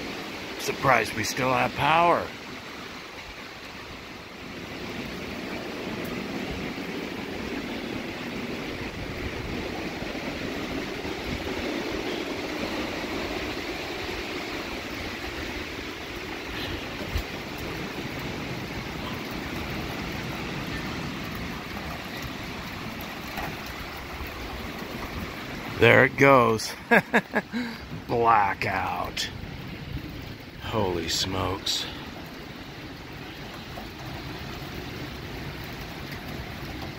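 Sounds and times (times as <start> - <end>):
storm wind through trees: 0.0 - 36.9.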